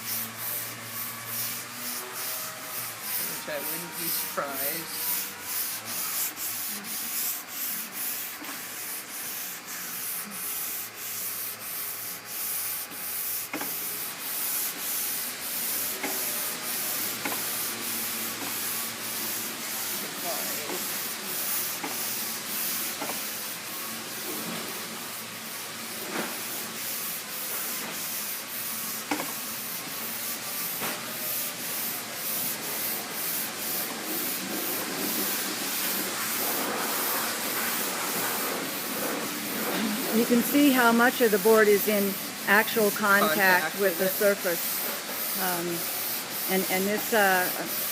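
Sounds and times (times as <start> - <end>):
sandpaper rasping on metal: 0.0 - 25.3, 25.9 - 47.9.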